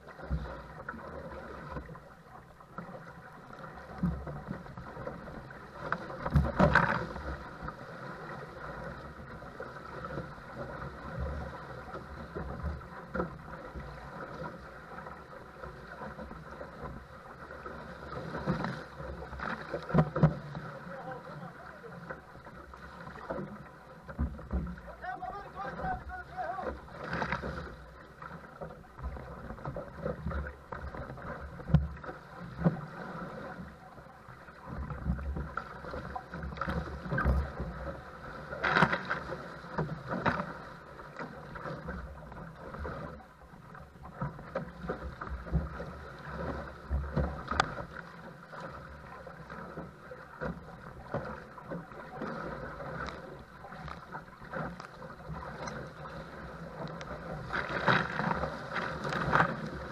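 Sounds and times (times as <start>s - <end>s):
water slapping around a paddle craft: 0.0s - 59.9s.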